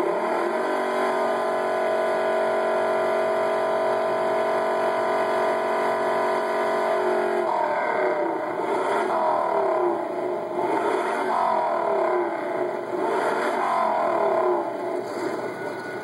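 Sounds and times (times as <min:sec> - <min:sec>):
car engine revving through a speaker: 0:00.0 - 0:16.0.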